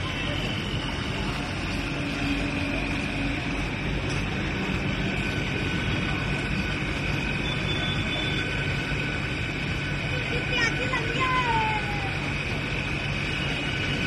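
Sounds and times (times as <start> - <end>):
train rushing rumble: 0.0 - 14.0.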